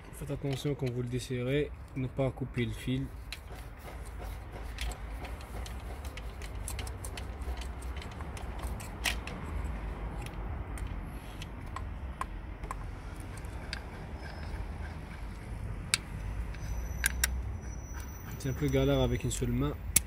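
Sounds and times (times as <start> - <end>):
metallic clicks of hand tools: 1.9 - 17.4, 18.7 - 20.0.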